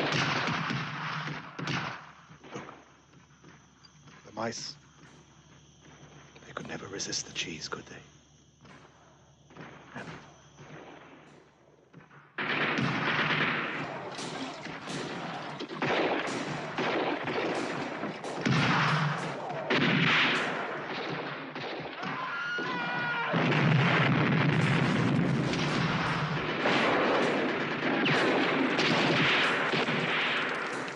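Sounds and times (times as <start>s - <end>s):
heavy gunfire volleys: 0.0s - 3.0s, 8.6s - 30.9s.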